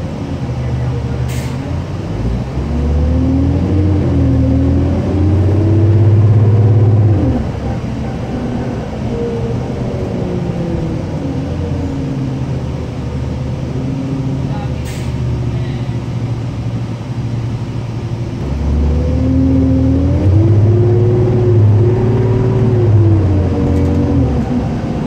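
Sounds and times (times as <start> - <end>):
bus diesel engine with whine: 0.0 - 25.0.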